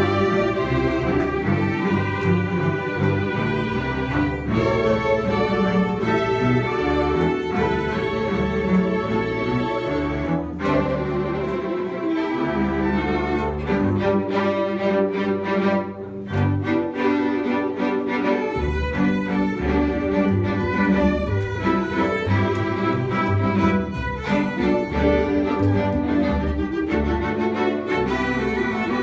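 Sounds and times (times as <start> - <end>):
string ensemble playing: 0.0 - 29.0.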